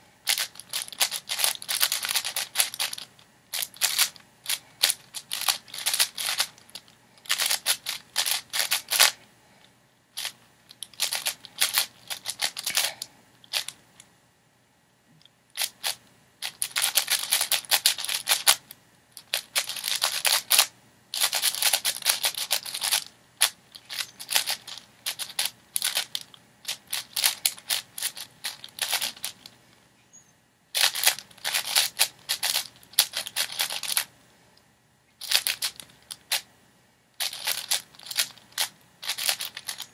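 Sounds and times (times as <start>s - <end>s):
puzzle cube clicking turns: 0.2s - 9.2s, 10.2s - 13.8s, 15.6s - 29.6s, 30.8s - 34.1s, 35.2s - 36.5s, 37.2s - 39.9s.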